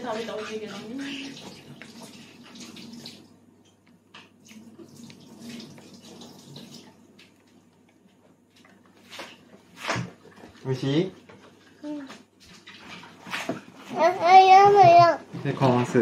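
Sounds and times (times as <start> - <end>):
faint running water: 0.0 - 16.0.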